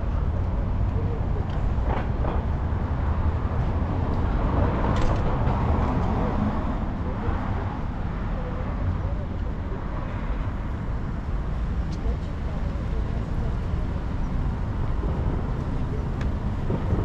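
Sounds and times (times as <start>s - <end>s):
faint voices of passers-by: 0.0s - 17.0s
traffic rumble: 0.0s - 17.0s.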